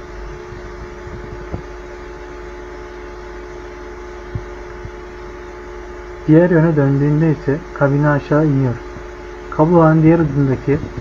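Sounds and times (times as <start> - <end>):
elevator motor humming: 0.0 - 11.0.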